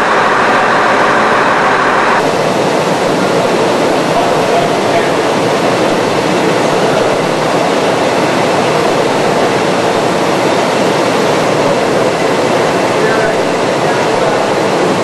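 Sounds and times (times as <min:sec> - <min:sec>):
loud mechanical rushing noise: 0:00.0 - 0:15.0.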